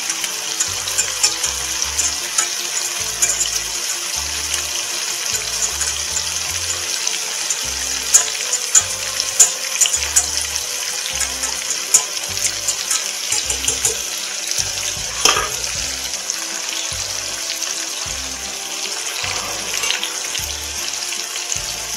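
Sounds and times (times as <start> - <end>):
meat sizzling in oil: 0.0 - 21.9.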